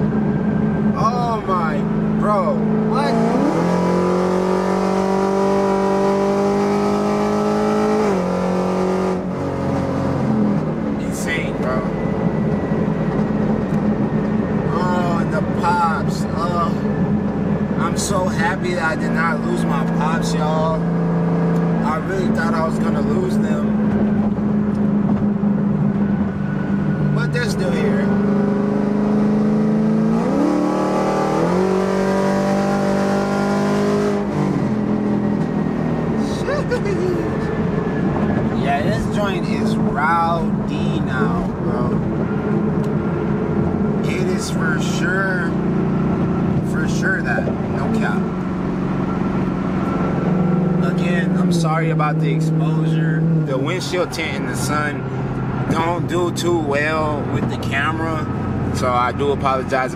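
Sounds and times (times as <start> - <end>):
car engine and exhaust revving: 0.0 - 59.9.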